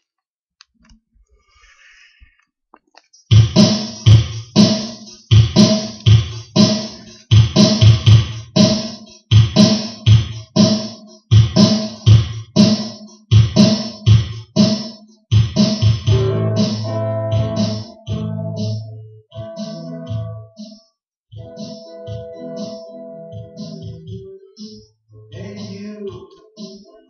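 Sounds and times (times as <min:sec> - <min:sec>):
music with steady beat: 0:03.2 - 0:27.0.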